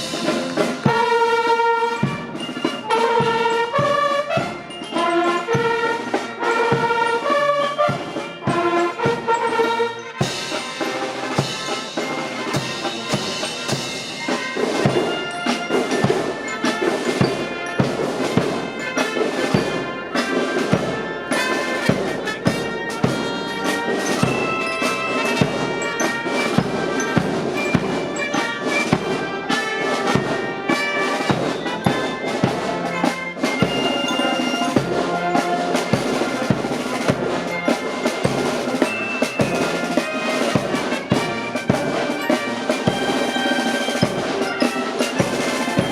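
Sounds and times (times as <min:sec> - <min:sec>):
marching band playing: 0:00.0 - 0:45.9.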